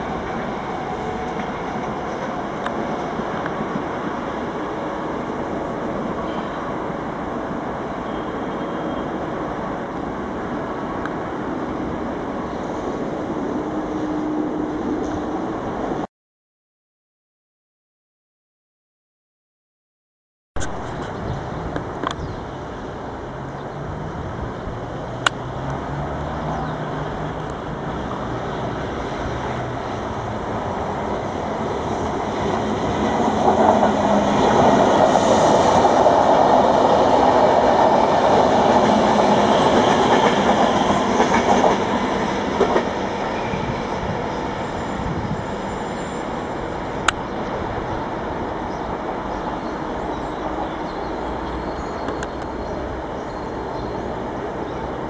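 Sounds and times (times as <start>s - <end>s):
electric train passing: 0.0s - 16.1s, 20.8s - 55.0s.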